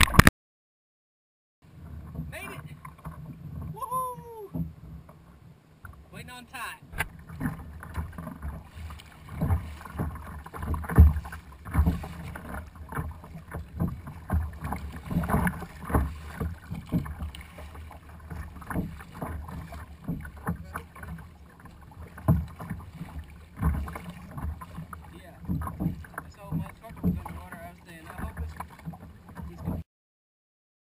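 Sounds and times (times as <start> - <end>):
water slapping against kayak hull: 1.6 - 29.8.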